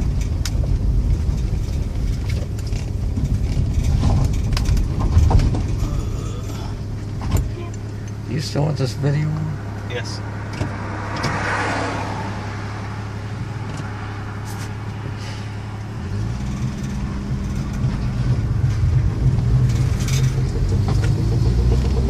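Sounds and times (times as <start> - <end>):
car engine revving and pulling away: 0.0 - 22.0.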